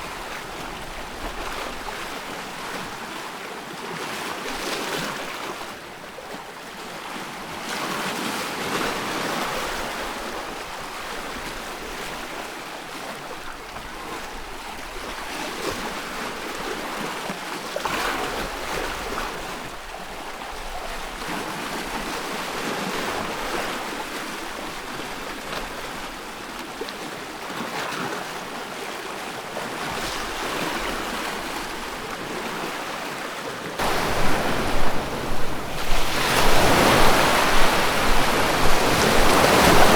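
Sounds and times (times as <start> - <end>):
ocean waves washing in surf: 0.0 - 39.9.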